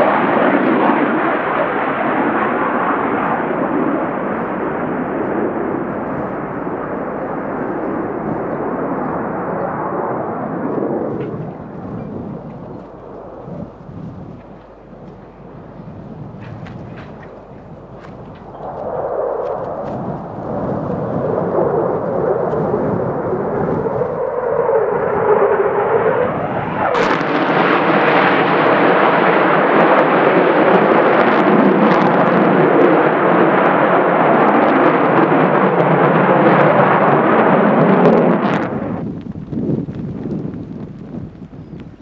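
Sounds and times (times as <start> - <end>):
fighter jet engine roar with afterburner: 0.0 - 42.0.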